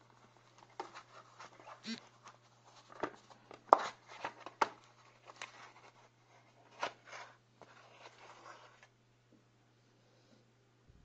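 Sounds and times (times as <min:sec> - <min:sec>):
soft rustling: 0:00.0 - 0:08.9
faint low hum: 0:00.0 - 0:11.0.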